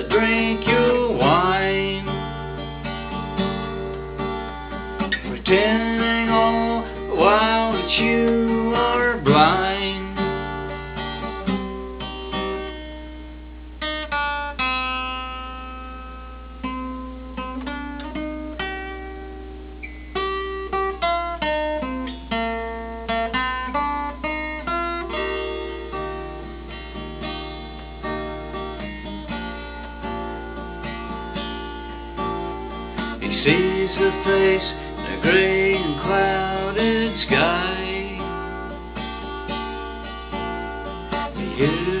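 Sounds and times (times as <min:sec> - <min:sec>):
acoustic guitar playing: 0:00.0 - 0:42.0.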